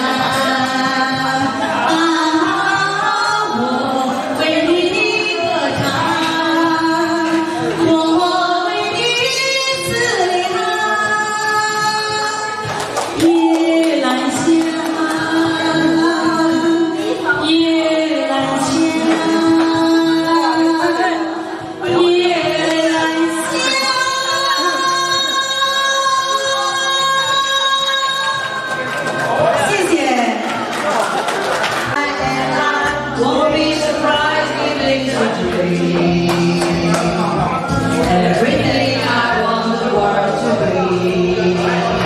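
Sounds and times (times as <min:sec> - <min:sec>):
music with singing: 0:00.0 - 0:30.1, 0:31.8 - 0:42.0.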